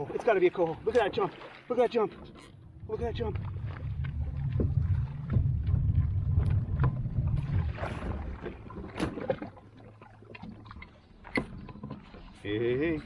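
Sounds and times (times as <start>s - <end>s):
rumble of wind and water: 0.0s - 13.0s.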